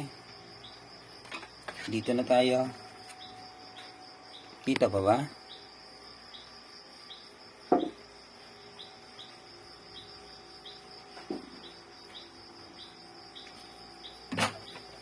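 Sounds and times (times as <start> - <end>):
cricket-like chirp: 0.0 - 15.0
insect hum: 0.0 - 15.0.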